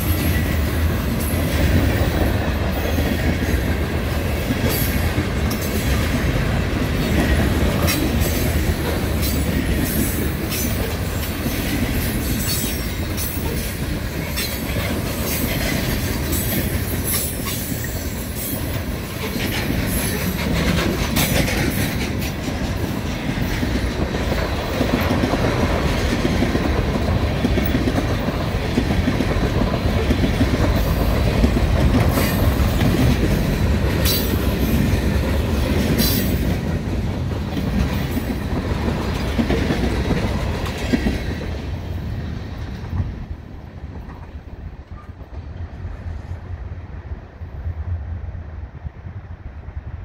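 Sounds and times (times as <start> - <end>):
train wheels clattering on rails: 0.0 - 46.6.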